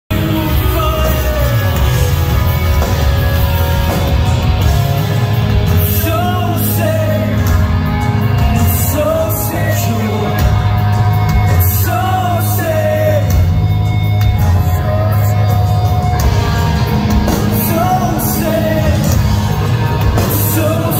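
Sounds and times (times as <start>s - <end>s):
drums: 0.0s - 20.9s
electric guitars: 0.1s - 20.9s
live rock band playing loudly: 0.1s - 20.9s
sung and shouted vocals: 0.1s - 20.9s.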